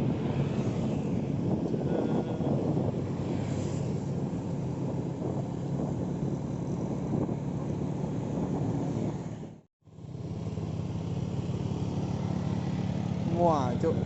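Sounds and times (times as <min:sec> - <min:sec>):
road and wind noise: 0:00.0 - 0:14.0
vehicle engine running: 0:01.2 - 0:14.0.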